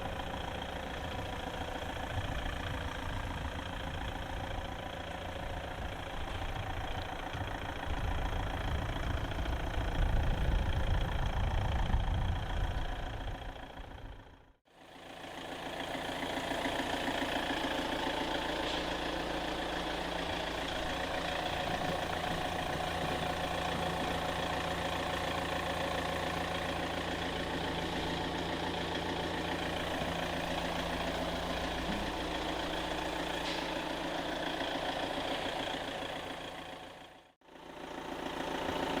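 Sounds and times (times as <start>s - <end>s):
diesel forklift engine rumbling: 0.0s - 39.0s.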